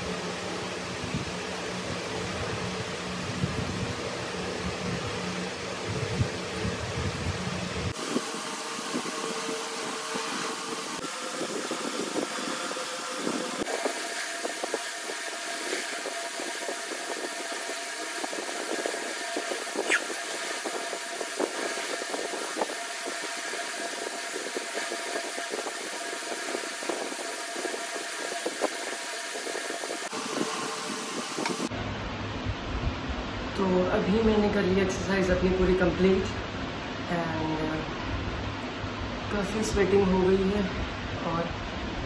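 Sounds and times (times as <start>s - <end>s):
electric fan humming: 0.0s - 42.0s.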